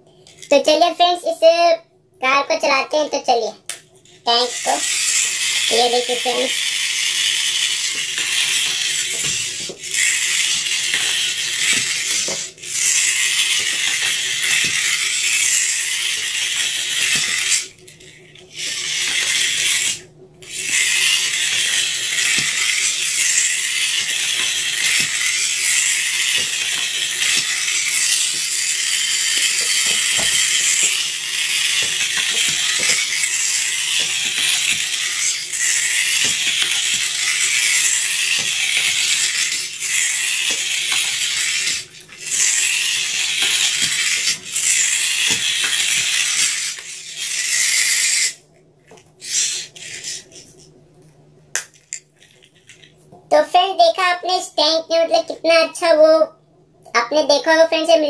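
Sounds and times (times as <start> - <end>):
toy tank motor whirring: 0.1 - 50.7, 51.6 - 56.2.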